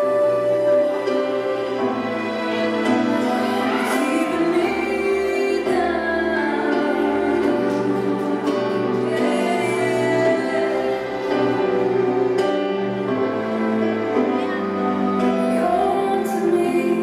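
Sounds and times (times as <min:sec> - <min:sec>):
song with sung vocals: 0:00.0 - 0:13.8, 0:14.4 - 0:17.0.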